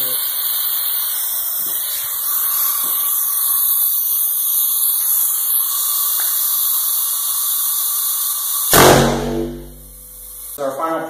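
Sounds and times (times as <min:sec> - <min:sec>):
compressed air hissing: 0:00.0 - 0:10.7.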